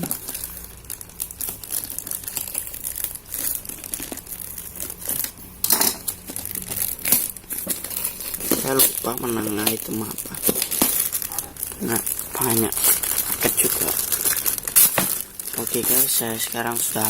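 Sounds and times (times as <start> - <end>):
parcel wrapping crinkling: 0.0 - 17.0.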